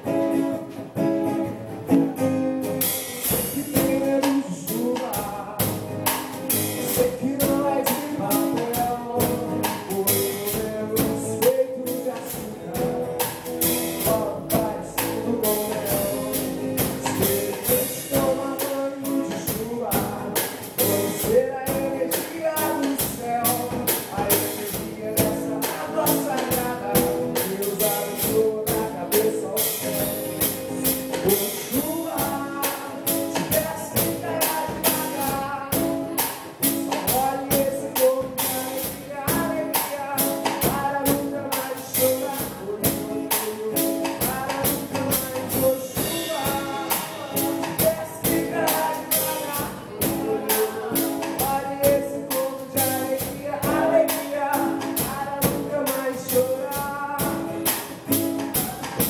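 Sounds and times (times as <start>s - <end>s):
band music: 0.0s - 59.0s
person singing: 0.0s - 59.0s.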